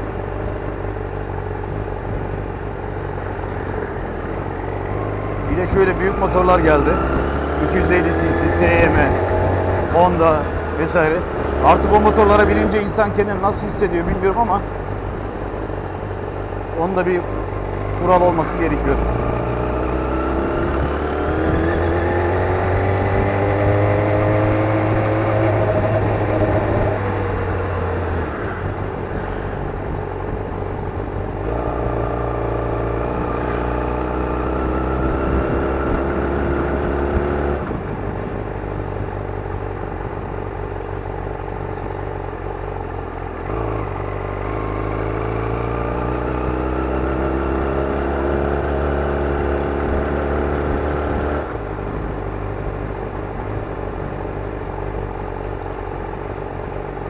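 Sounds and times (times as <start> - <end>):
motorcycle engine revving: 0.0 - 39.5, 42.6 - 55.1.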